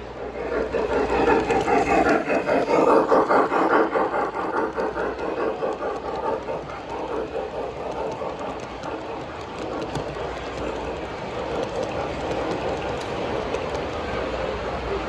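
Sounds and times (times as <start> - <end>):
model train wheels clicking: 0.0 - 15.0.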